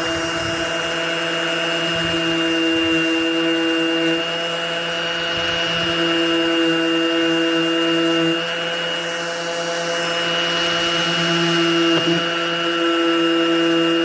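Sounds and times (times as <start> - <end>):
orbital sander sanding metal: 0.0 - 14.0.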